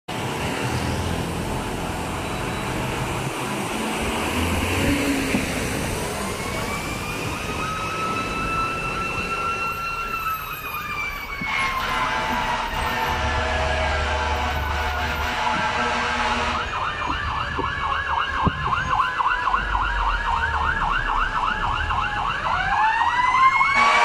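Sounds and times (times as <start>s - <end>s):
buses and cars passing: 0.1s - 24.0s
fire engine siren wailing: 0.2s - 24.0s.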